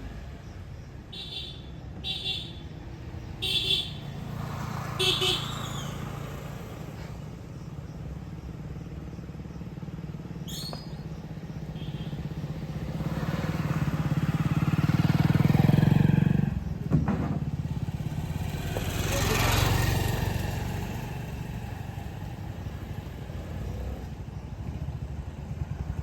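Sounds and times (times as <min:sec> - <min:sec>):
motorcycle engine running: 0:02.8 - 0:26.0.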